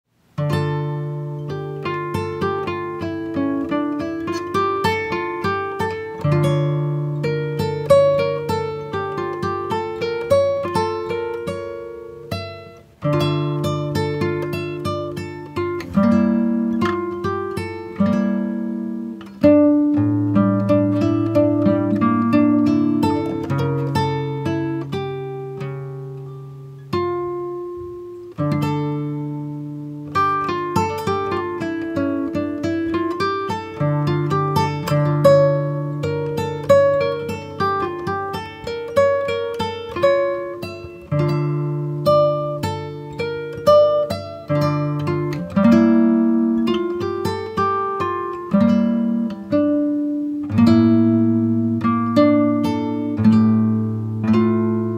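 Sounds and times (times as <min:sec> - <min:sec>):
plucked acoustic guitar: 0:00.3 - 0:54.9.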